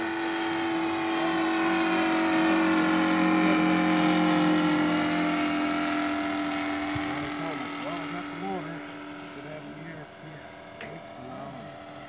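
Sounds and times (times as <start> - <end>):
model plane engine droning overhead: 0.0 - 12.0.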